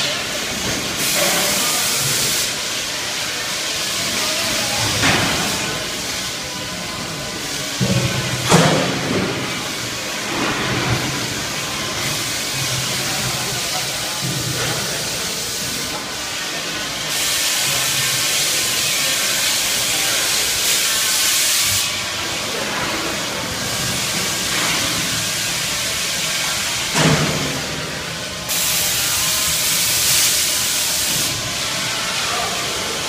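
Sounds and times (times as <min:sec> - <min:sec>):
machinery hissing: 0:00.0 - 0:33.0.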